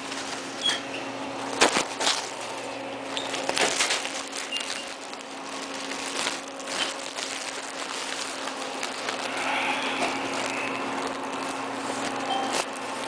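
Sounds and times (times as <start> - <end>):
rustling and crinkling handling: 0.0 - 13.0
steady electrical hum: 0.0 - 13.0.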